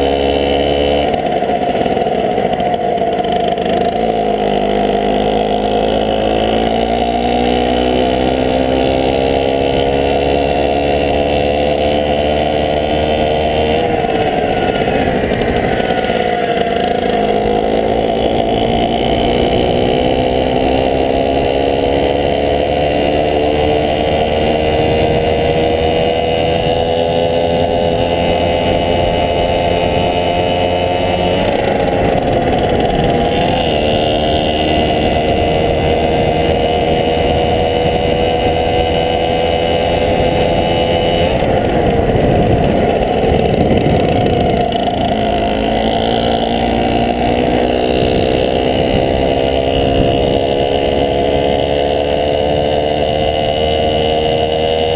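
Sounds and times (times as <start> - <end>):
moped engine running: 0.0 - 54.9.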